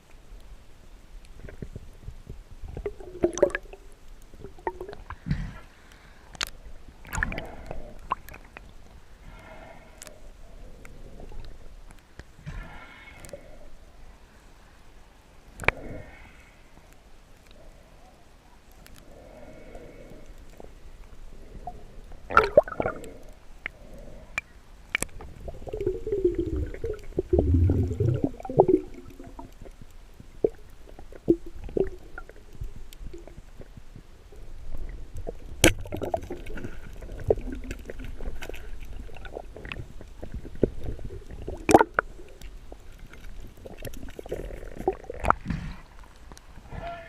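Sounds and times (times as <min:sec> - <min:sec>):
water gurgling and sloshing: 0:01.4 - 0:14.3, 0:19.0 - 0:46.8.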